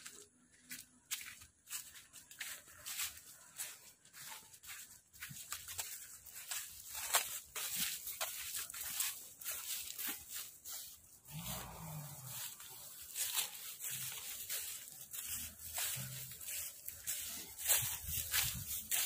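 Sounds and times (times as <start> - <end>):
footsteps crunching dry grass: 0.0 - 19.0.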